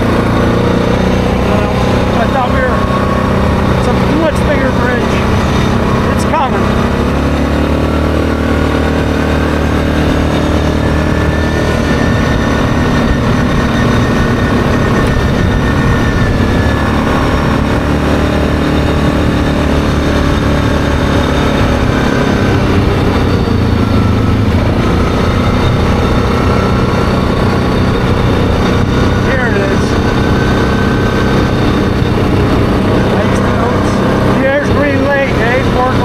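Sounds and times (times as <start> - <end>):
atv engine running on gravel: 0.0 - 36.0.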